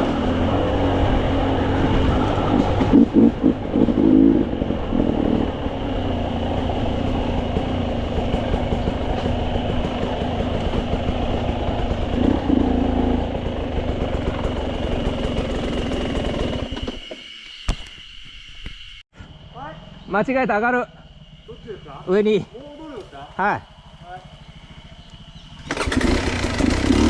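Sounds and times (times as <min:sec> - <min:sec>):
dirt bike engine running: 0:00.0 - 0:17.1, 0:19.4 - 0:27.0.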